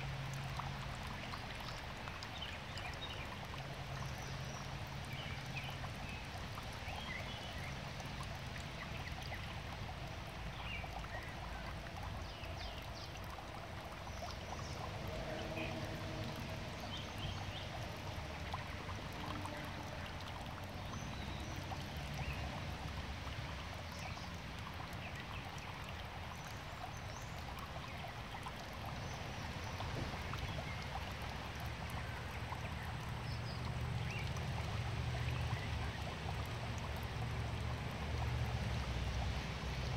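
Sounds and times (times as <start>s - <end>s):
water drips on surface: 0.0s - 39.9s
water trickling into pond: 0.0s - 39.9s.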